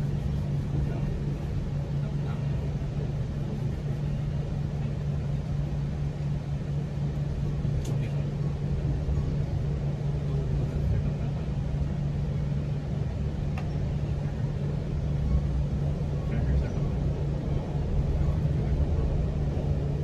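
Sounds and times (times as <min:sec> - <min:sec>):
low hum: 0:00.0 - 0:20.0
train rumbling: 0:00.0 - 0:20.0.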